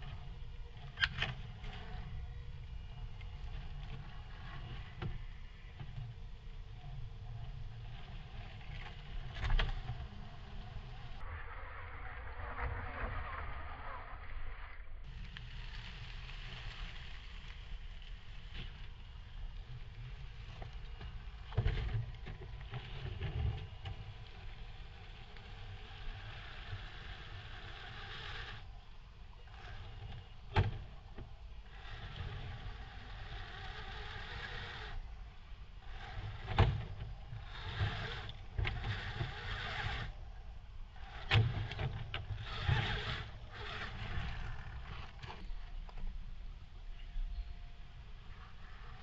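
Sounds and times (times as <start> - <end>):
electric motor and gears whining: 0.0 - 11.3, 15.0 - 45.6.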